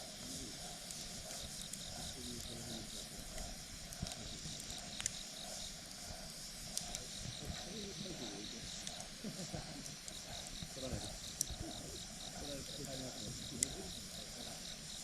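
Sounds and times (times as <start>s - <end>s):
campfire crackling and popping: 0.0s - 15.0s
cricket chirping: 0.0s - 15.0s.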